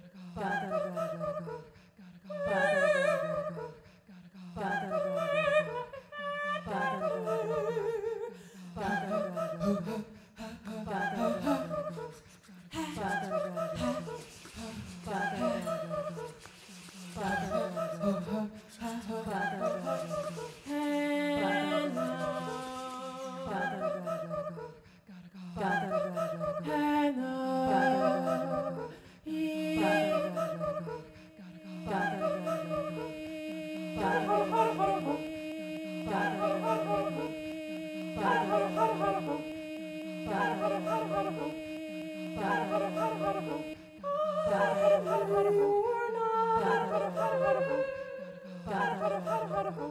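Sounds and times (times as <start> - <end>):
woman singing processed vocals: 0.0 - 49.9.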